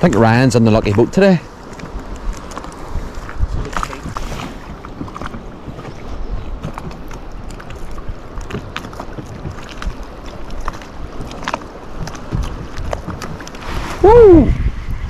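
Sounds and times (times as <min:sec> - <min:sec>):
waves slapping boat hull: 0:00.0 - 0:15.0
wind on microphone: 0:01.7 - 0:15.0.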